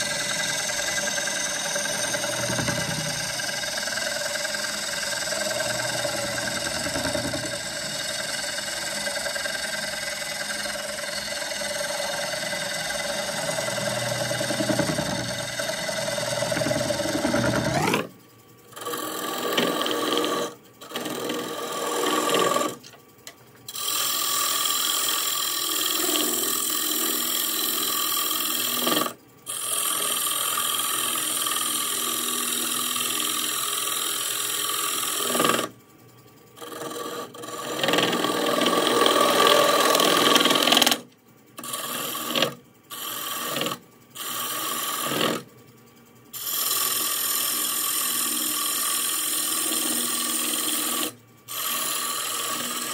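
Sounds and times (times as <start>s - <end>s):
gouge scraping wood on lathe: 0.0s - 18.1s, 18.7s - 22.9s, 23.7s - 35.7s, 36.6s - 41.0s, 41.6s - 45.5s, 46.4s - 52.9s
faint lathe whine: 0.0s - 52.9s.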